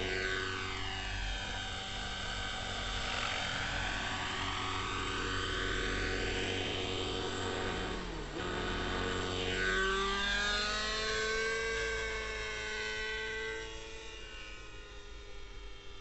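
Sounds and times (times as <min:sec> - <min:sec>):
model helicopter engine and rotors: 0:00.0 - 0:16.0.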